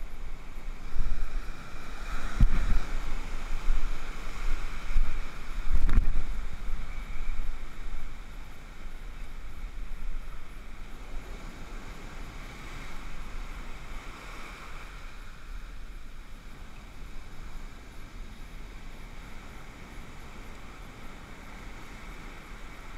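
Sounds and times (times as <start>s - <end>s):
ocean surf churning: 0.0s - 22.9s
wind rumbling on microphone: 0.0s - 22.9s.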